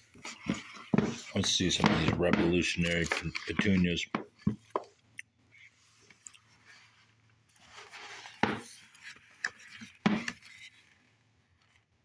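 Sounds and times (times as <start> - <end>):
book pages rustling: 0.0 - 5.0, 5.6 - 12.0.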